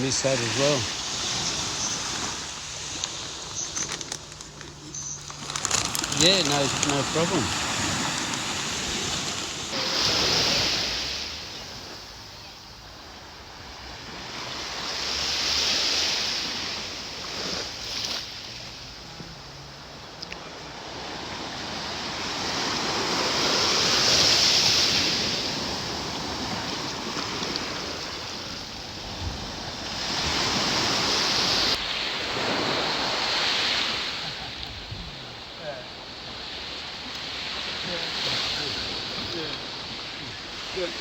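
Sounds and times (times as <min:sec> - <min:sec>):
waves breaking on a beach: 0:00.0 - 0:41.0.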